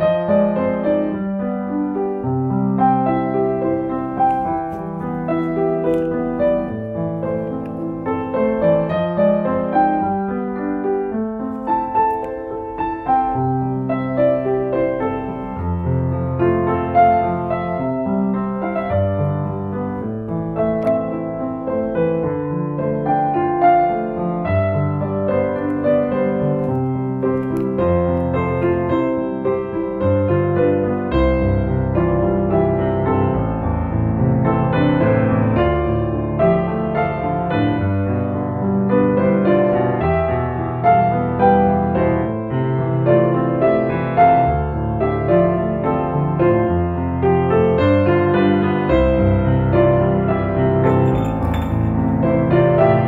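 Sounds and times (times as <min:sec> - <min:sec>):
solo piano ballad: 0:00.0 - 0:53.0.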